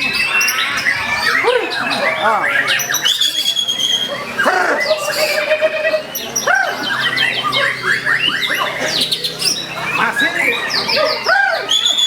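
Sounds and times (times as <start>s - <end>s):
bird singing whistled song: 0.0s - 5.5s, 6.1s - 12.0s.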